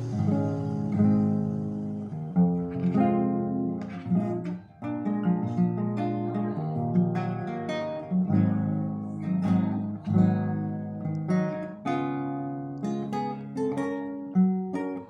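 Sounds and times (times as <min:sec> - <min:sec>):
classical guitar chords ringing: 0:00.0 - 0:15.0.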